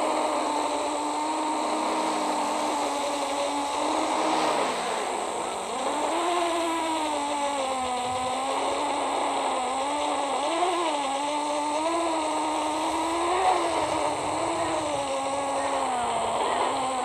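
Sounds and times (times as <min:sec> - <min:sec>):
quadcopter motors whining: 0:00.0 - 0:17.0
steady hiss: 0:00.0 - 0:17.0.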